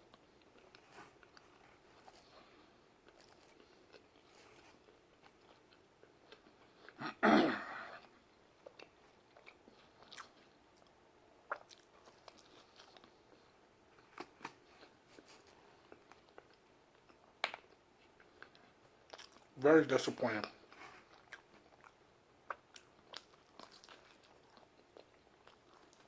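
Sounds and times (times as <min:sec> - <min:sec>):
person chewing food: 0:00.0 - 0:07.2, 0:07.8 - 0:19.6, 0:20.4 - 0:26.0.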